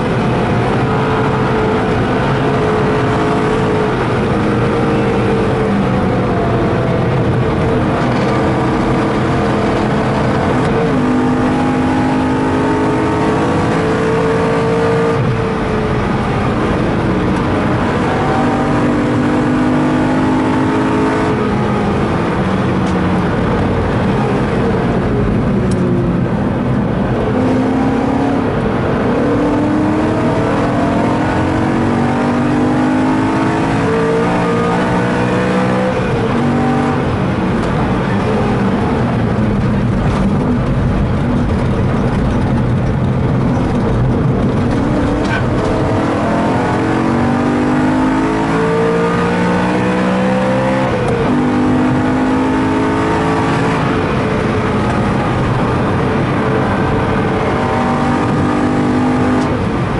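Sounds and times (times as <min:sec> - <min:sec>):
car engine accelerating: 0:00.0 - 0:59.9
tyre and road noise: 0:00.0 - 0:59.9.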